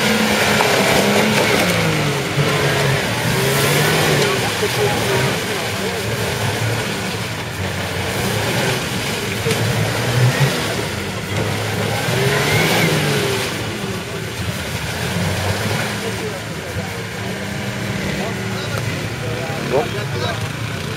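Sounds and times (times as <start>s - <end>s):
engine revving hard: 0.0s - 20.9s
wheels spinning in mud: 0.0s - 20.9s.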